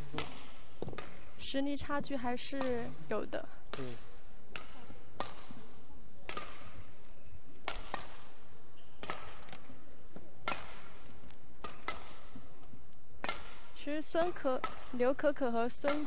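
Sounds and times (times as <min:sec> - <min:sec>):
rackets hitting shuttlecock: 0:00.0 - 0:01.4, 0:02.4 - 0:16.0.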